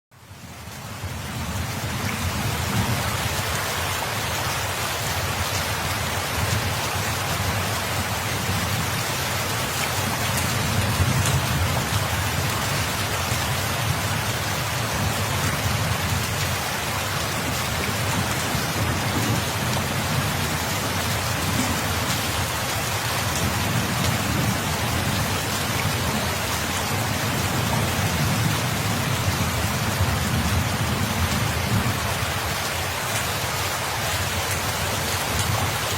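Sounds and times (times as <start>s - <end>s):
heavy rain pattering: 0.2s - 35.9s.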